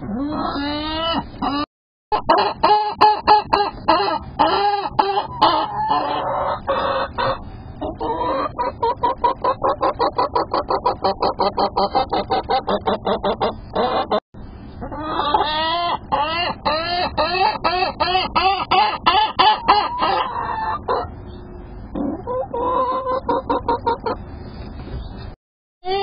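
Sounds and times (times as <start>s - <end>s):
hens clucking: 0.0s - 14.2s, 14.8s - 24.2s
hens squawking: 0.0s - 14.2s, 14.8s - 21.2s, 21.9s - 24.2s.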